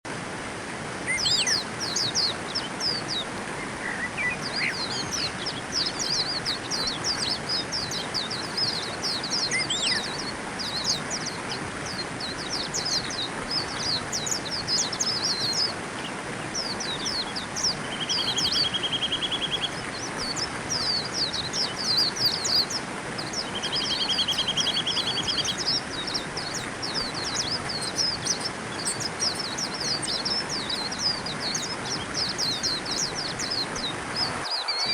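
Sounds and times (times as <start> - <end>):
steady background hiss: 0.1 - 34.9
birds chirping rapidly: 1.1 - 34.9
buzzy bird trill: 1.2 - 34.9.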